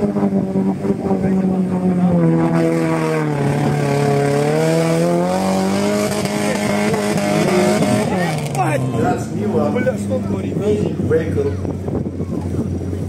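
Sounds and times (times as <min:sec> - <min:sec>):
off-road engine at high revs: 0:00.0 - 0:13.0.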